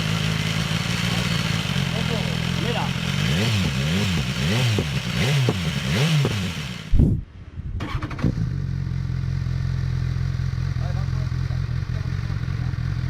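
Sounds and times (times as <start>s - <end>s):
motorcycle engine revving: 0.0s - 7.0s, 7.8s - 13.0s.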